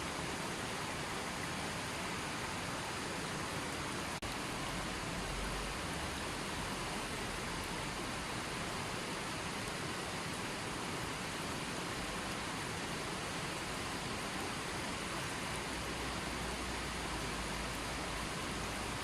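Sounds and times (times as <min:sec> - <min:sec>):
running water flowing: 0:00.0 - 0:19.0.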